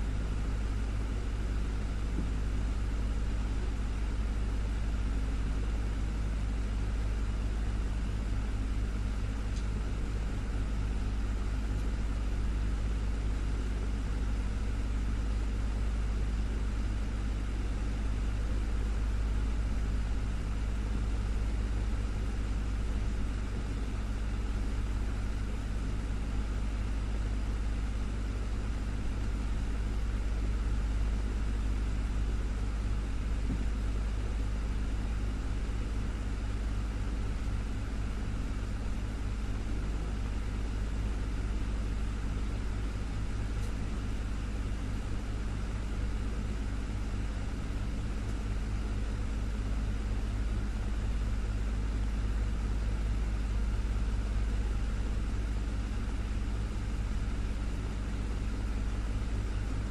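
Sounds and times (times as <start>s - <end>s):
desktop fan motor hum: 0.0s - 59.9s.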